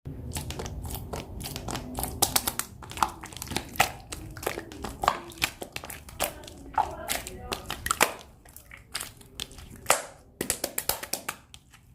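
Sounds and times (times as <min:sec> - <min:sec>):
crinkling: 0:00.2 - 0:11.9.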